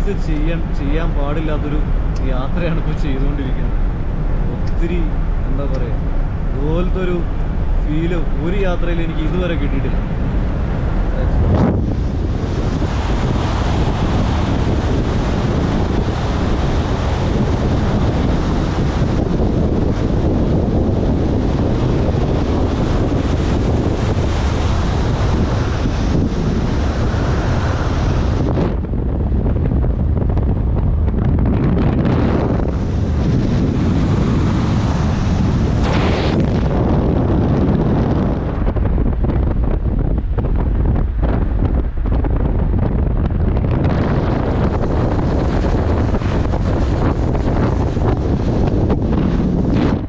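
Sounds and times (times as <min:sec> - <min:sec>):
road and engine rumble: 0:00.0 - 0:50.0
wind rushing over microphone: 0:00.0 - 0:50.0.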